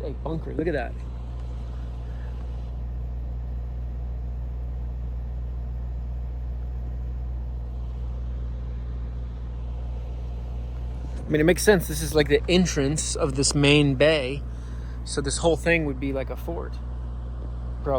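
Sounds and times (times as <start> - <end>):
car engine humming: 0.0 - 17.9.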